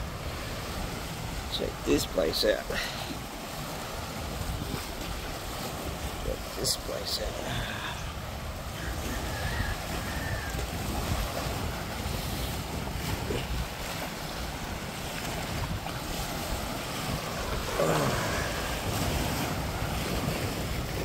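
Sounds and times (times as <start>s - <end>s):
small waves breaking on rocks: 0.0s - 21.0s
wind buffeting microphone: 3.1s - 6.6s, 7.5s - 21.0s.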